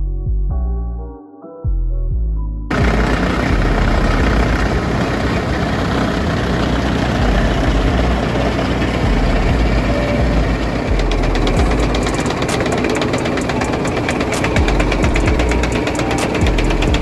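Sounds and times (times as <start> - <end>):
heavy screening machine running: 2.7 - 17.0.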